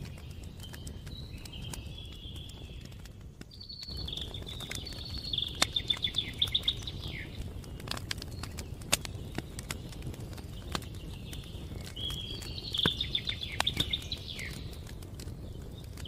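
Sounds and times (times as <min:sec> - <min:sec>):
campfire crackling: 0:00.0 - 0:16.0
small birds singing: 0:00.0 - 0:16.0.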